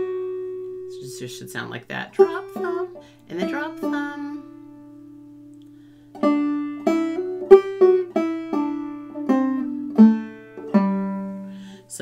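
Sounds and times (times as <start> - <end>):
banjo plucked notes: 0.0 - 12.0.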